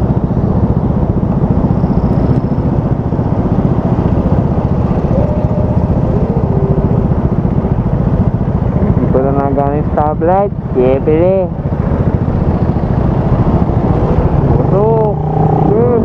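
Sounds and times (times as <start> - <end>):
motorcycle engine running: 0.0 - 16.0
wind rush: 0.0 - 16.0.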